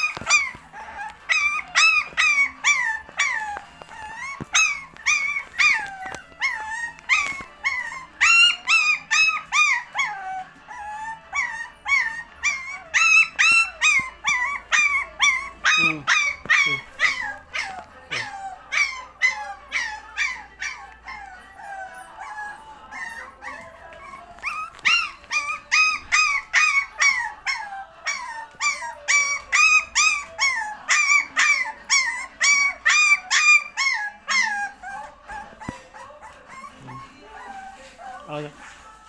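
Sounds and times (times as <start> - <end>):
puppy whining and yelping: 0.0 - 39.0.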